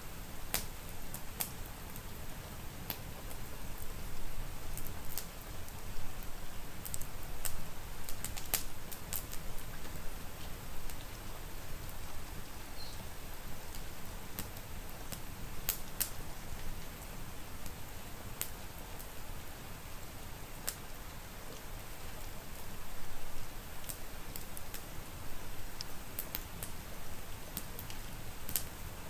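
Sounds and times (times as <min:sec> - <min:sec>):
rain hissing: 0:00.0 - 0:29.0
wood fire crackling: 0:00.0 - 0:29.0.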